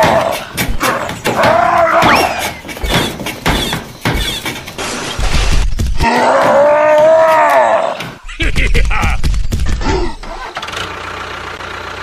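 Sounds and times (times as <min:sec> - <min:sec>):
sharp knocks and clatters: 0:00.0 - 0:09.8.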